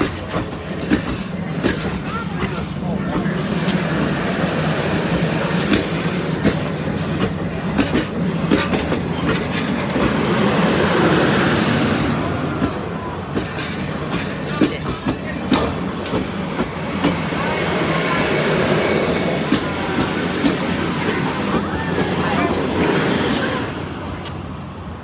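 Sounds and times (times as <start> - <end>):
train cars rumbling: 0.0 - 25.0
wheels clicking over rail joints: 0.0 - 25.0.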